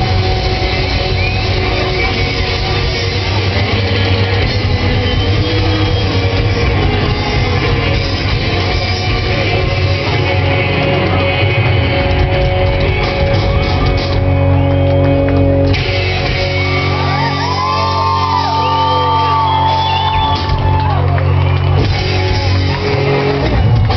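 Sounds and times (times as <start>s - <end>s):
live rock band playing: 0.0s - 23.9s.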